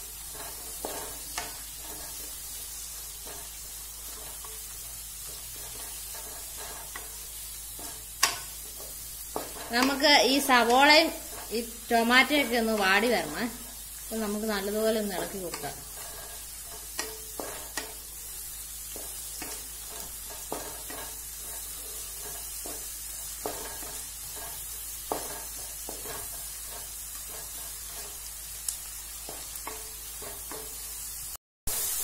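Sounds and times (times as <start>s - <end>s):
wooden spatula scraping a pan: 0.0s - 31.9s
onions and tomatoes sizzling in oil: 0.0s - 32.0s.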